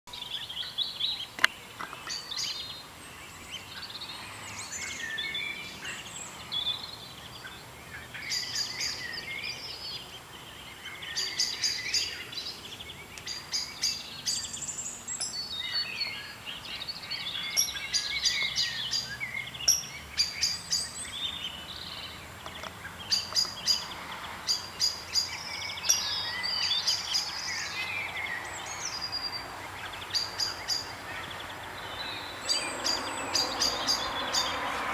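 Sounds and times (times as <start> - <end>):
small birds singing: 0.1 - 34.9.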